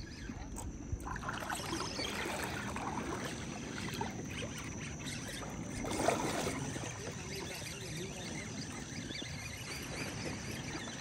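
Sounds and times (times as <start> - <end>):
water sloshing and trickling: 0.0 - 11.0.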